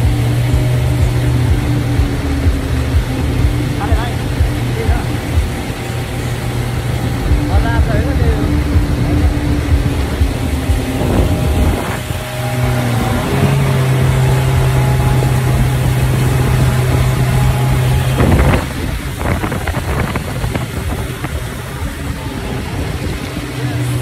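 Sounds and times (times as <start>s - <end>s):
motorboat engine running: 0.0s - 24.0s
splashing spray: 0.0s - 24.0s
water rushing past hull: 0.0s - 24.0s.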